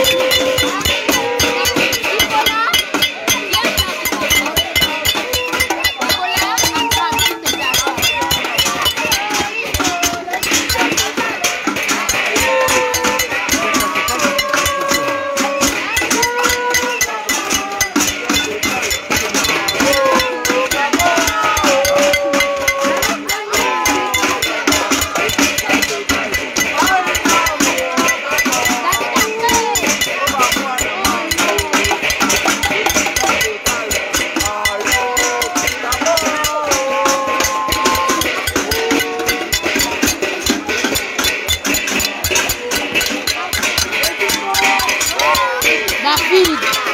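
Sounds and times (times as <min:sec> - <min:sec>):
pots and pans beaten rapidly: 0:00.0 - 0:46.9.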